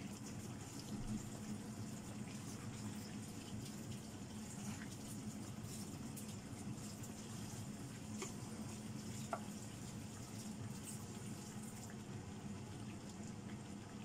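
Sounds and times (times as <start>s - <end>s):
curry bubbling in a pan: 0.0s - 14.0s.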